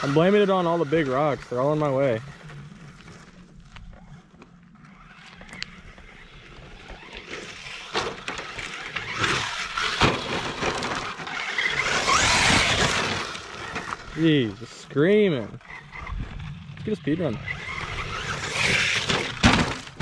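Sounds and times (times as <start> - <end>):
electric motor whine: 0.0 - 20.0
tires crunching gravel: 0.0 - 20.0.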